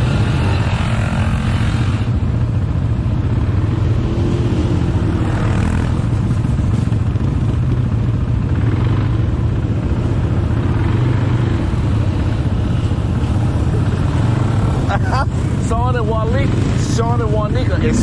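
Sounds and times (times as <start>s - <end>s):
atv engine rumbling: 0.0s - 18.0s.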